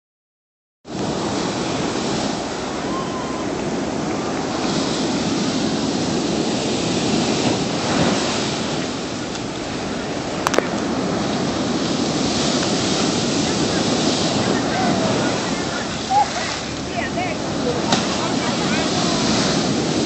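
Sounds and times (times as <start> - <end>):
wind: 0.8 - 20.0
waves breaking: 0.9 - 20.0.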